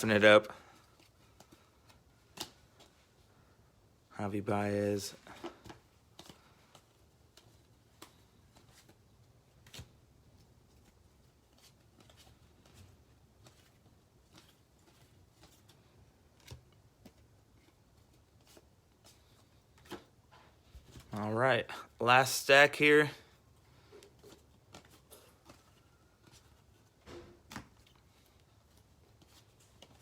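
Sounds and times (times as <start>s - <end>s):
baseball cards being flipped: 0.4s - 3.2s, 5.1s - 21.2s, 23.3s - 30.0s.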